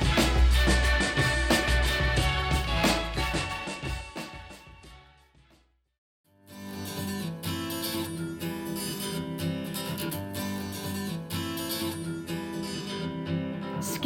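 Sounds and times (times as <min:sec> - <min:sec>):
acoustic guitar strumming through speakers: 0:00.0 - 0:04.9, 0:06.4 - 0:14.0.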